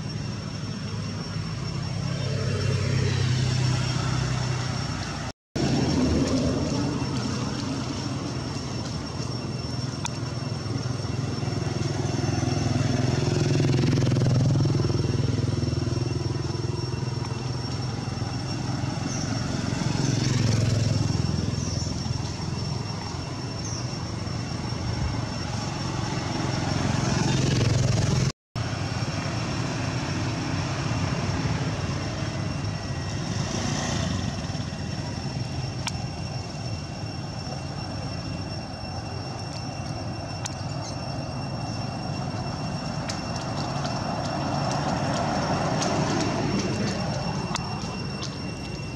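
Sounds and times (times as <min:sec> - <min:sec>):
vehicles passing on road: 0:00.0 - 0:48.9.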